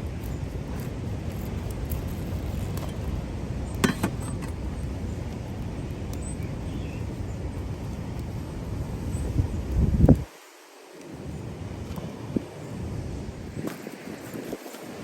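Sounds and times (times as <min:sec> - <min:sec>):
wind rumble on microphone: 0:00.0 - 0:10.4, 0:11.0 - 0:15.0.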